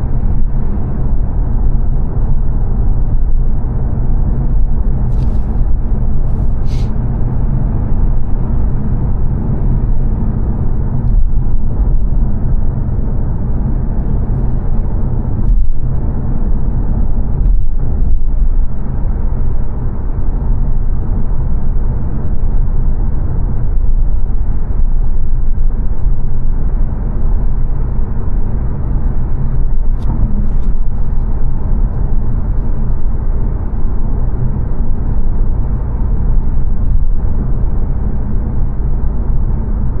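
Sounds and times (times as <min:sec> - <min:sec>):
road and tyre noise in car: 0:00.0 - 0:40.0.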